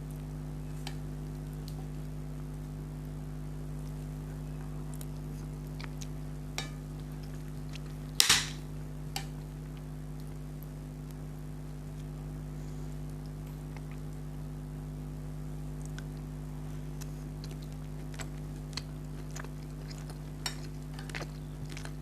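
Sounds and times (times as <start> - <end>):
close eating sounds: 0.0 - 22.0
steady electrical hum: 0.0 - 22.0.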